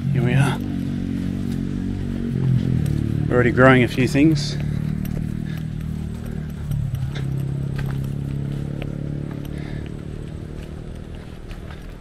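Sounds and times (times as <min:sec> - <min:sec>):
engine humming low: 0:00.0 - 0:12.0
footsteps on dirt path: 0:00.0 - 0:12.0.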